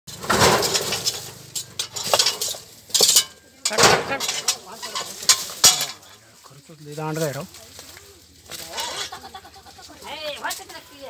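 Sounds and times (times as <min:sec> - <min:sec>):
rake scraping dry leaves: 0:00.1 - 0:03.4, 0:04.1 - 0:11.0.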